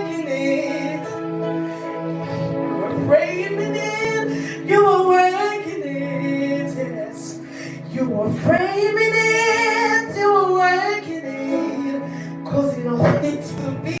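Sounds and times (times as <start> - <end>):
person singing long wordless notes: 0.0 - 14.0.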